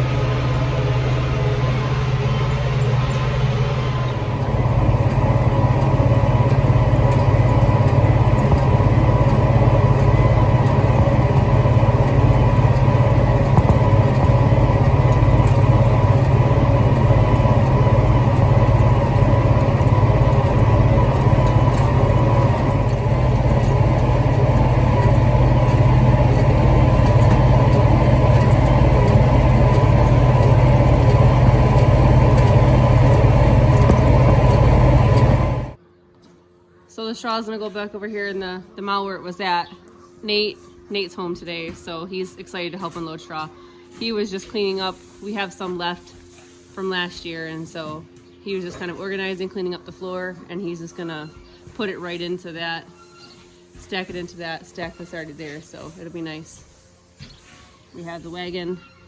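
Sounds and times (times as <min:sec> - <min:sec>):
tractor engine running: 0:00.0 - 0:35.8, 0:40.3 - 0:57.2.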